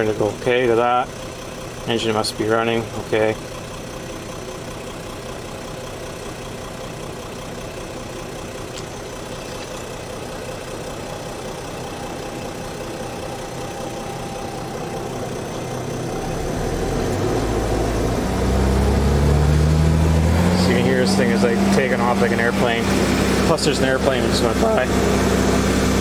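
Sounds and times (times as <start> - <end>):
diesel engine idling and revving: 0.0 - 26.0.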